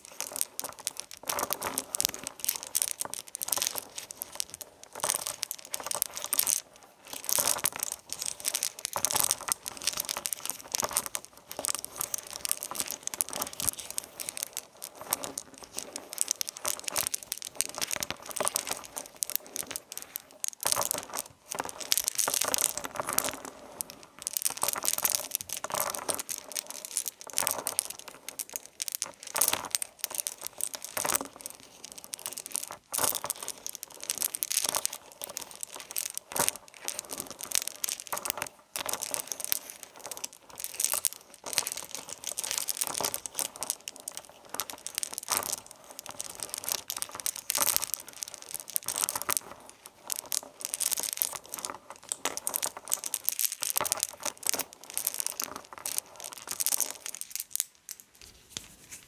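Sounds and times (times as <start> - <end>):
material crinkling and crackling: 0.0 - 59.0.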